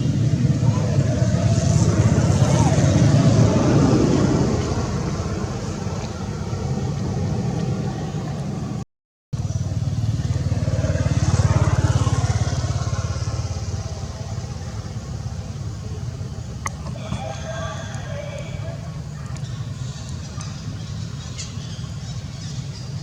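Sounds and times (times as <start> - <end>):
motor engine droning: 0.0 - 8.8, 9.4 - 23.0.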